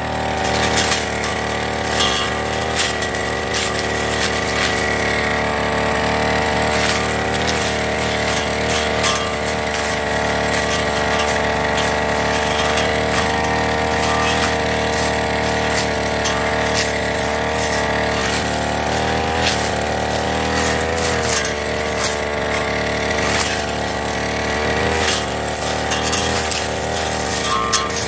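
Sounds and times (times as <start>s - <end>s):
brush cutter engine running: 0.0s - 28.0s
blade ticking against stalks: 0.1s - 28.0s.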